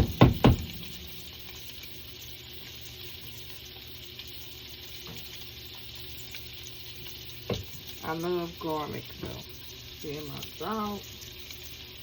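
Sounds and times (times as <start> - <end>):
sausage sizzling in a frying pan: 0.0 - 12.0.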